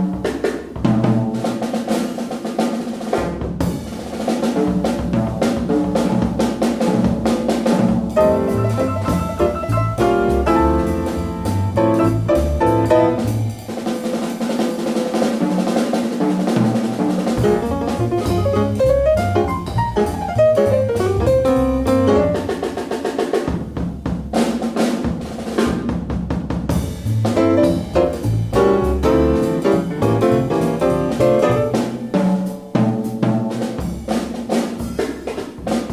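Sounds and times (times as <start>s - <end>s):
jazz trio playing: 0.0s - 35.9s
snare and bass drum: 0.0s - 35.9s.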